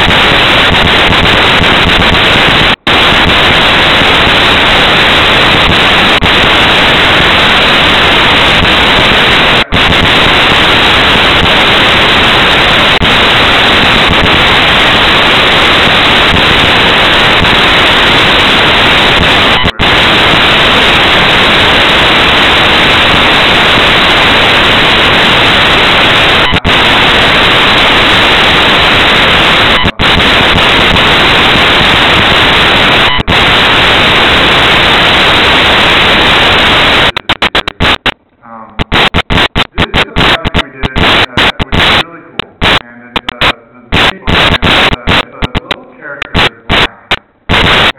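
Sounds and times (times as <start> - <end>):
loud static hiss: 0.0 - 47.9.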